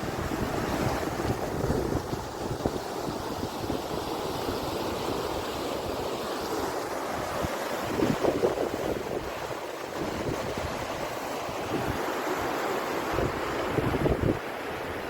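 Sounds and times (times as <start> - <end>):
wind buffeting microphone: 0.0 - 6.0, 7.1 - 15.0
floodwater rushing: 0.0 - 15.0.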